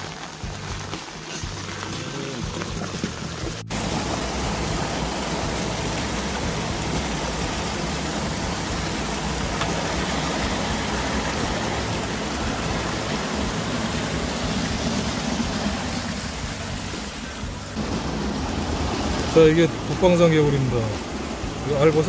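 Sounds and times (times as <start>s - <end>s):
rain falling on water: 0.0s - 22.0s.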